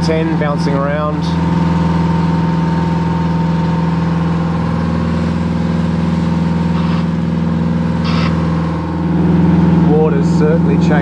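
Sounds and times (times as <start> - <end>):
boat diesel engine droning: 0.0 - 11.0.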